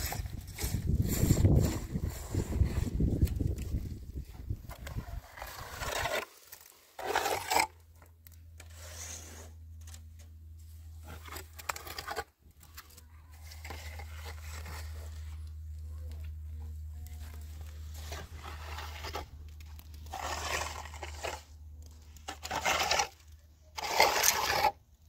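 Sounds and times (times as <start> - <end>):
trowel scraping mortar on wall: 0.0 - 3.9, 4.7 - 10.0, 10.9 - 12.4, 13.3 - 15.5, 17.6 - 24.9.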